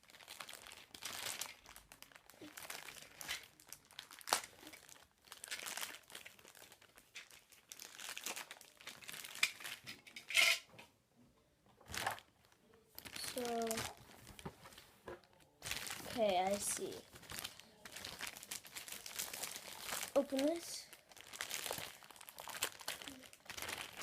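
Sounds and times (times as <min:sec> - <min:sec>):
packaging crinkling: 0:00.0 - 0:09.8, 0:11.8 - 0:12.3, 0:13.0 - 0:24.0.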